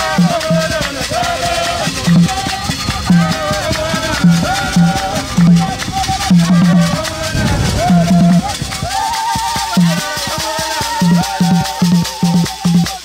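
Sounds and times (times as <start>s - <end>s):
group singing in chorus: 0.0s - 13.0s
hand claps: 0.0s - 13.0s
hand-held rattles shaking: 0.0s - 13.0s.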